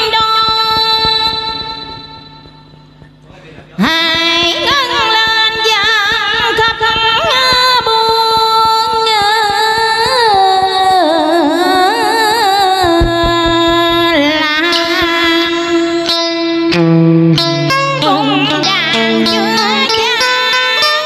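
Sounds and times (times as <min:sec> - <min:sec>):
woman singing into a microphone: 0:00.0 - 0:02.4, 0:03.8 - 0:16.2, 0:17.9 - 0:21.0.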